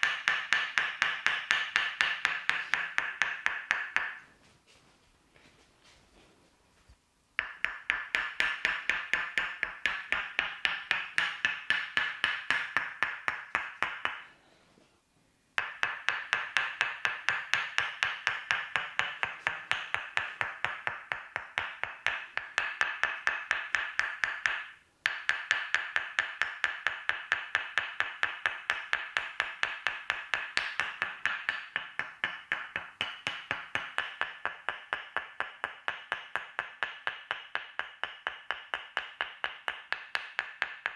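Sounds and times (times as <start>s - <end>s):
wooden mallet tapping wooden wedge: 0.0s - 4.4s, 7.4s - 14.4s, 15.6s - 40.9s.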